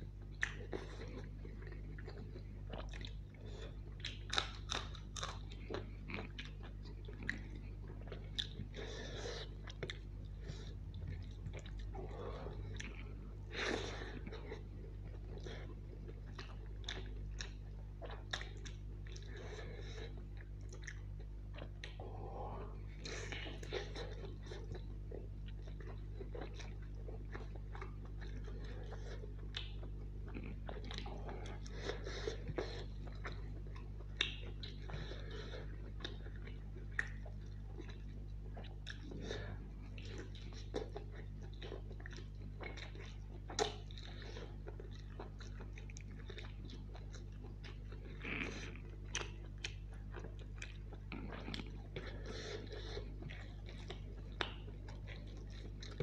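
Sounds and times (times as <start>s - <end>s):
steady low hum: 0.0s - 56.0s
close chewing: 0.1s - 56.0s.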